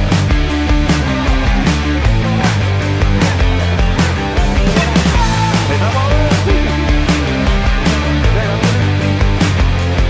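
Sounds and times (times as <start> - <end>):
rock music with steady beat: 0.0 - 10.0.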